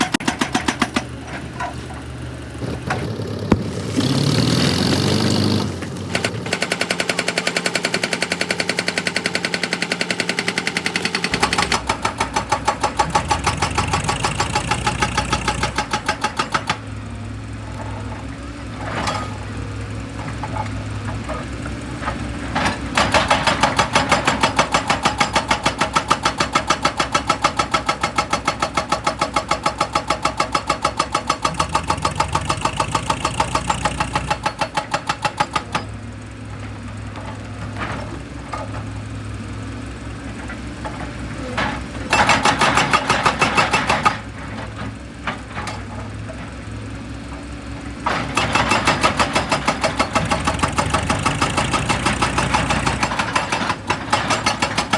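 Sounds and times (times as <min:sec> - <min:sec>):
construction machinery pounding: 0:00.0 - 0:54.9.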